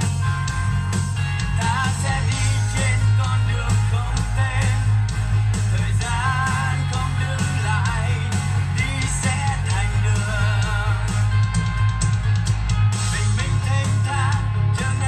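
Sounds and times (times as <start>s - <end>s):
song over a wireless speaker: 0.0s - 15.0s.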